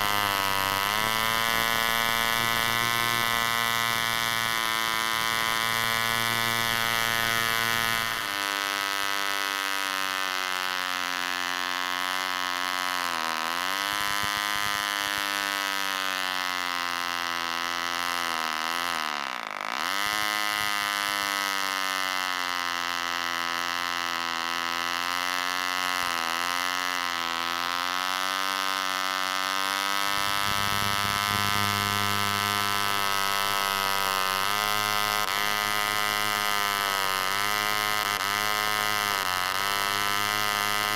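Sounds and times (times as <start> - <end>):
model engine high-pitched buzz: 0.0 - 40.9.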